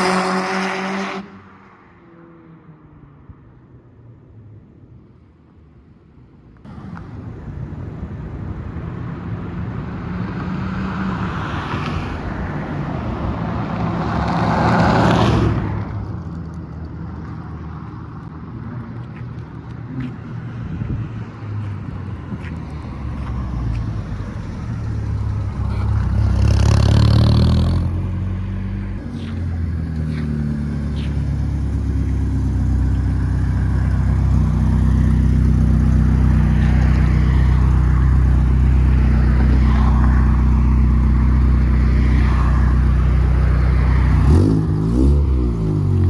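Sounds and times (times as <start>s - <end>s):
car engines running: 6.4s - 46.0s.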